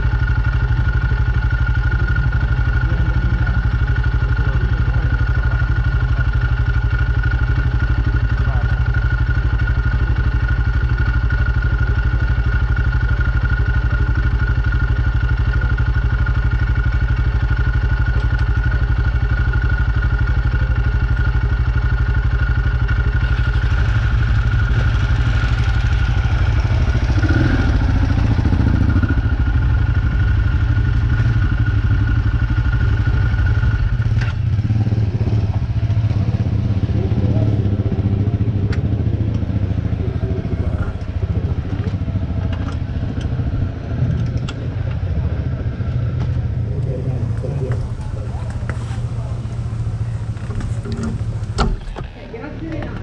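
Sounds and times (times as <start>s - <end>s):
motorcycle engines idling: 0.0s - 53.0s.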